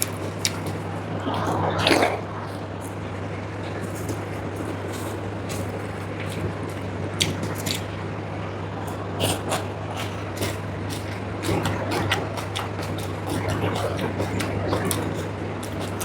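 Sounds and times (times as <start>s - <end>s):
chewing: 0.0s - 8.0s, 8.7s - 16.0s
steady low hum: 0.0s - 16.0s.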